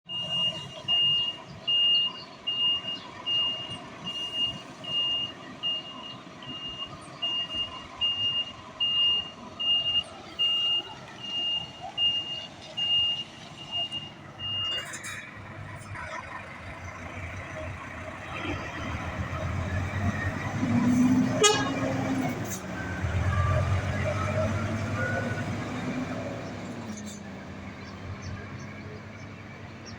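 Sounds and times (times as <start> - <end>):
diesel truck engine running: 0.1 - 29.9
truck reversing alarm beeping: 0.1 - 29.9.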